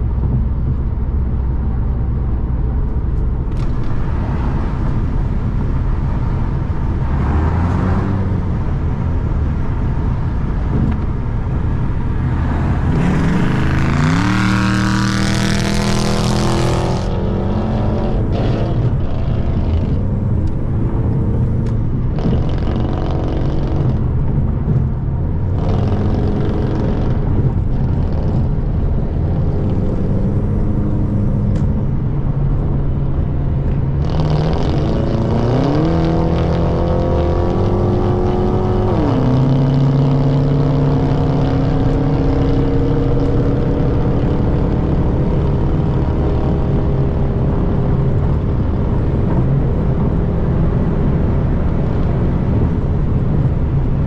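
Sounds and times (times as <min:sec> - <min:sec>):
car engine: 0:00.0 - 0:54.0
road noise: 0:00.0 - 0:54.0.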